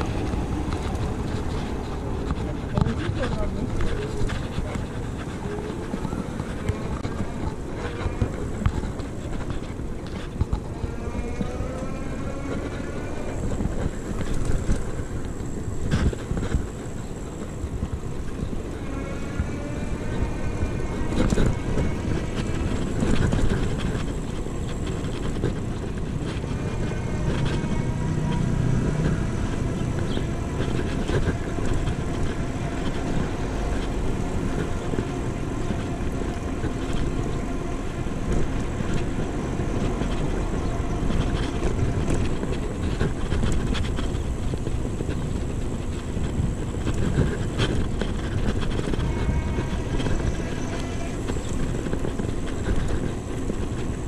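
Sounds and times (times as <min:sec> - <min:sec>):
bike tyre hum: 0:00.0 - 0:54.0
faint motor whine: 0:00.0 - 0:54.0
wind rush: 0:00.0 - 0:54.0.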